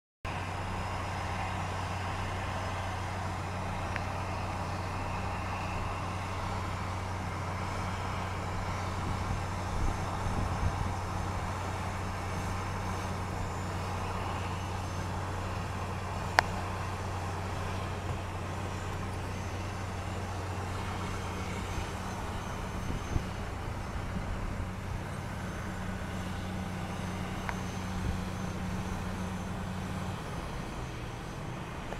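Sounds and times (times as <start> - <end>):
low engine drone: 0.3 - 31.9.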